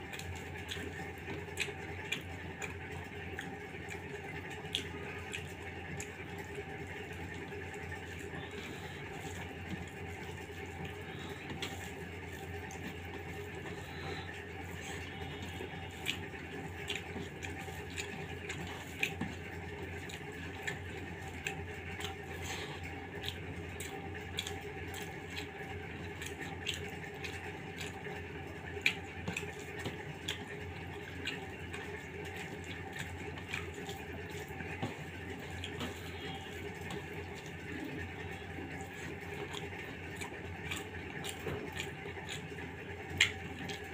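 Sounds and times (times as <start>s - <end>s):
steady low hum: 0.0s - 43.9s
wet chewing and mouth smacks: 0.0s - 43.9s.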